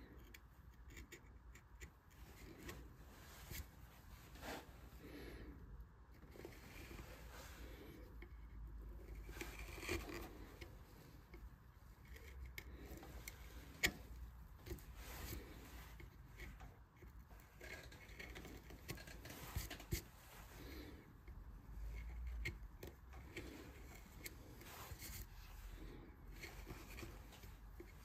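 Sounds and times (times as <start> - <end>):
gouge scraping wood: 0.1 - 5.5, 6.2 - 28.0.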